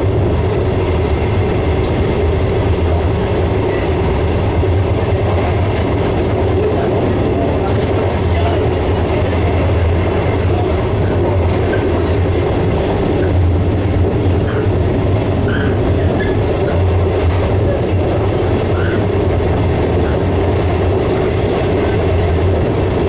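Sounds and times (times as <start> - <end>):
train running gear drone: 0.0 - 23.0.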